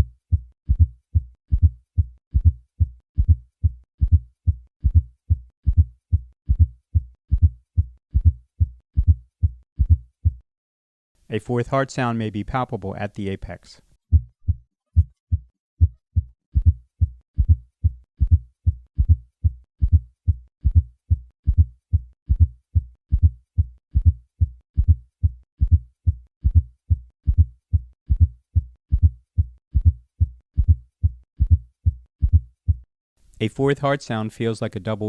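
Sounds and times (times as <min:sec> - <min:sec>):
heartbeat gallop thuds: 0:00.0 - 0:10.4, 0:14.1 - 0:32.8.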